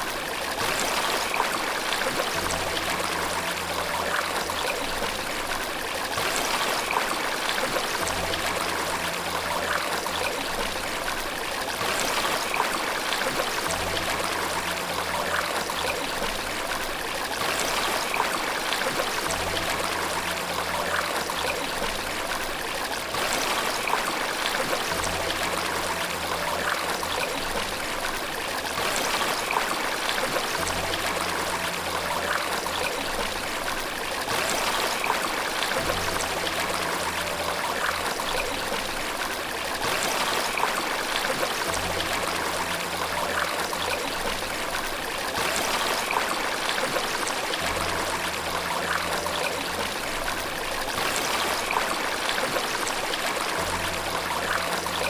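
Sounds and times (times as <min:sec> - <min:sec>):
rushing water: 0:00.0 - 0:55.0
soft background music: 0:00.0 - 0:55.0.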